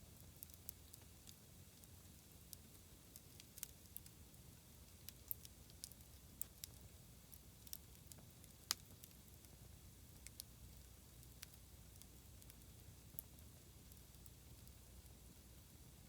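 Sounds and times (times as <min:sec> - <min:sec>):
bonfire wood crackling: 0:00.1 - 0:16.0.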